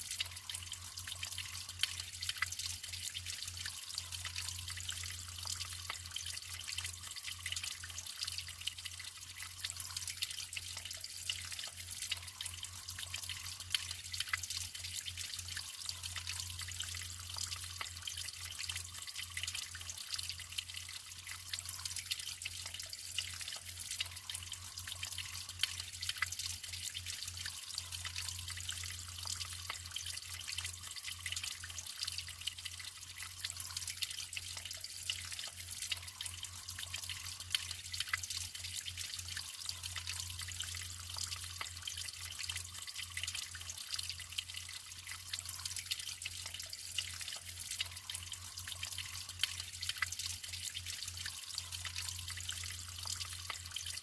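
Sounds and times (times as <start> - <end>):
water drips and splashes: 0.0 - 54.0.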